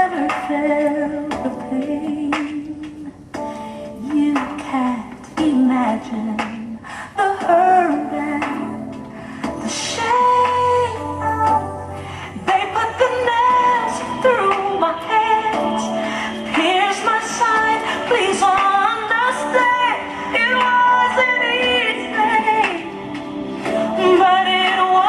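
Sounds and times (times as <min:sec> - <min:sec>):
instrumental backing music: 0:00.0 - 0:25.0
woman singing: 0:00.0 - 0:25.0.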